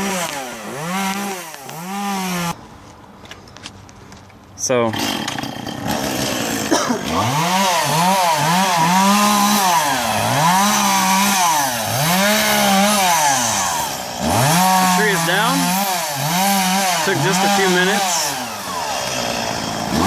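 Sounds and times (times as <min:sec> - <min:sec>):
chainsaw cutting: 0:00.0 - 0:02.6, 0:04.8 - 0:20.0.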